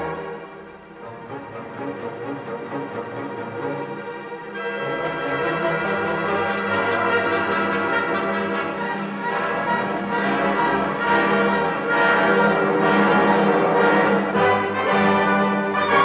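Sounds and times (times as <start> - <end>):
orchestra playing held chords: 0.0 - 16.0.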